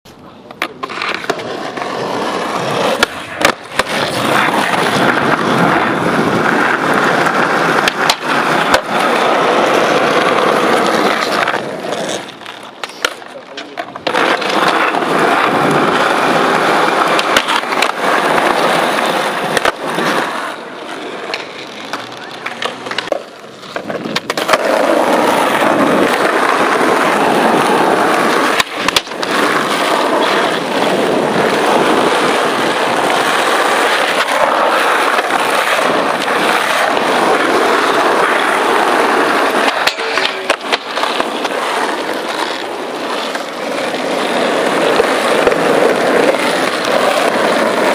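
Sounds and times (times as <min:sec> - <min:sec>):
skateboard wheels rolling on asphalt: 0:00.0 - 0:47.9
skateboard clacks: 0:00.1 - 0:47.9.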